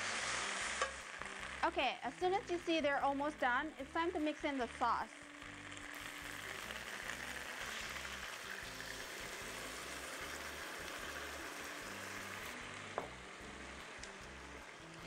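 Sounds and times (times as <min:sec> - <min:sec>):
sauce sizzling in hot pan: 0:00.0 - 0:15.0
soft background music with bass: 0:00.0 - 0:15.0.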